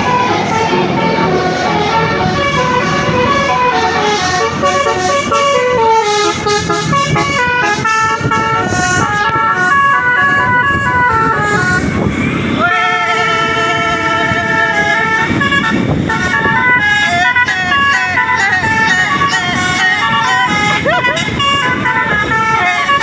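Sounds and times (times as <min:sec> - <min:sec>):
bus air horn melody: 0:00.0 - 0:23.0.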